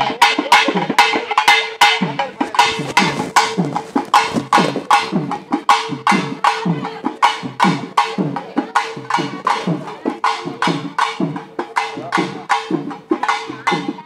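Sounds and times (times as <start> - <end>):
folk drums beaten fast: 0.0 - 14.0.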